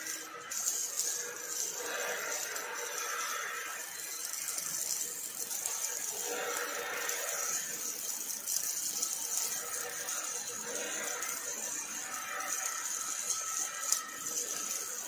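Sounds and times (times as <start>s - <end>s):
welding arc crackling hiss: 0.0s - 15.0s.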